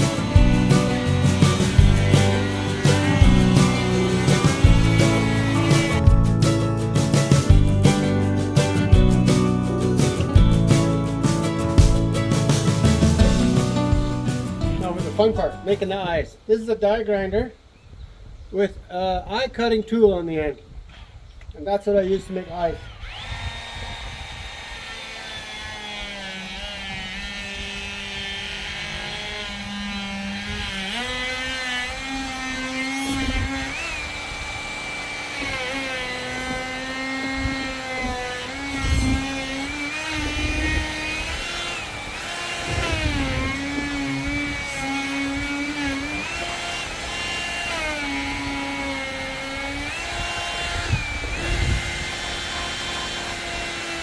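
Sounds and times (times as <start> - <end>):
die grinder cutting wood: 0.0 - 15.8, 22.1 - 54.0.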